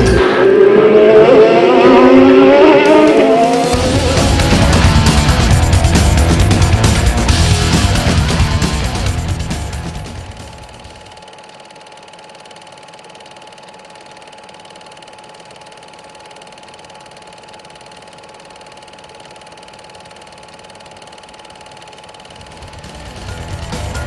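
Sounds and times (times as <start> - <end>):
film projector whirring and clicking: 3.1 - 24.0.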